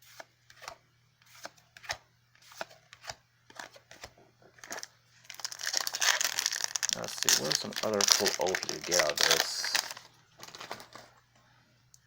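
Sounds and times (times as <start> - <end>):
cards being flipped by hand: 0.1 - 11.1.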